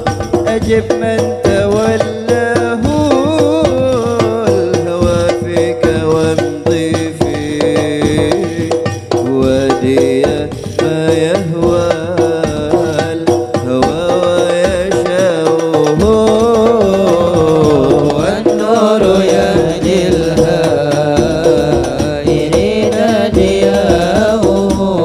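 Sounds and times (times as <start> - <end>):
drum accompaniment: 0.0 - 25.0
man singing into a microphone: 0.0 - 25.0.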